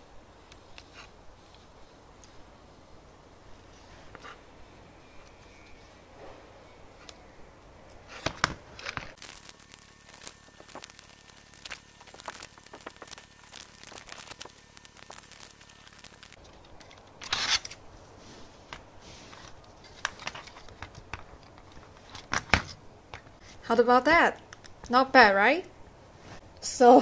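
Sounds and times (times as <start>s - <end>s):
rustling: 0.0s - 25.0s.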